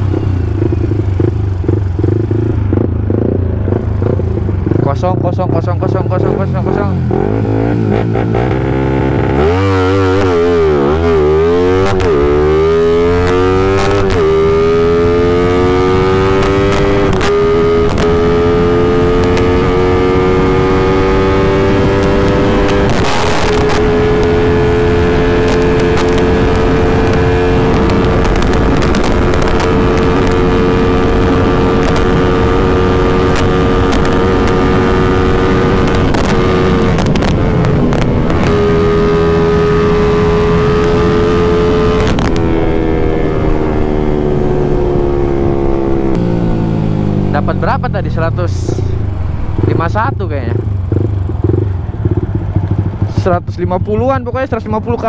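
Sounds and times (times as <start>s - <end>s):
motorcycle engine at full throttle: 0.0s - 55.0s.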